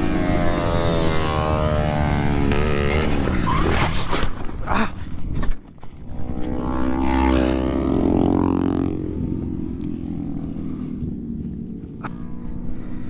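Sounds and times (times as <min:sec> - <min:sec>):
motorcycle engine running: 0:00.0 - 0:03.4, 0:05.9 - 0:13.0.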